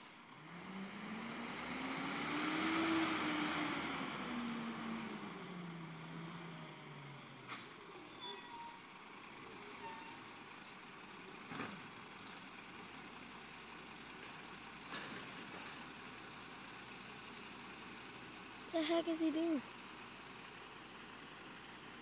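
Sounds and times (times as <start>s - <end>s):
garbage truck engine slowing: 0.0s - 22.0s.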